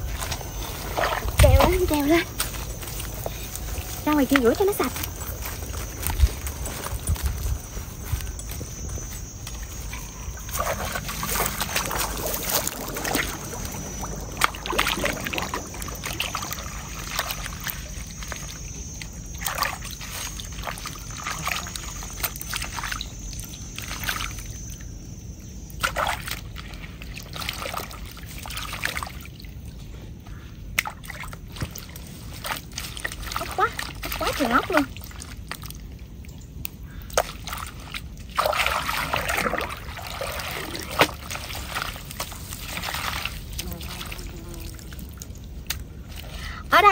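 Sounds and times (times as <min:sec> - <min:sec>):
water sloshing and splashing: 0:00.0 - 0:46.9.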